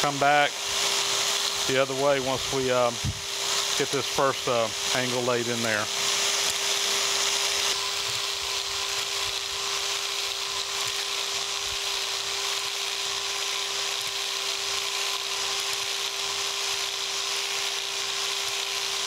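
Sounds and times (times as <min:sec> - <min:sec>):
electric power scraper scraping metal: 0:00.0 - 0:19.0.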